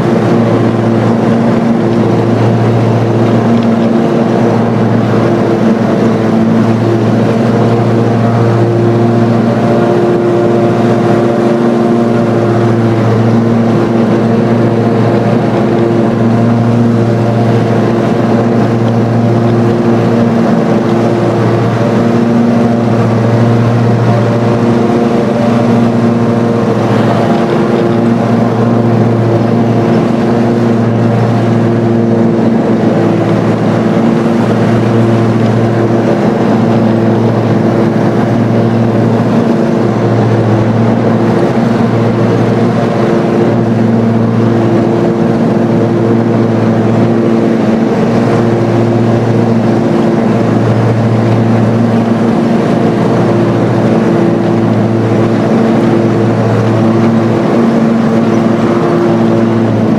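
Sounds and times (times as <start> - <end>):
riding lawn mower engine running: 0.0 - 59.9.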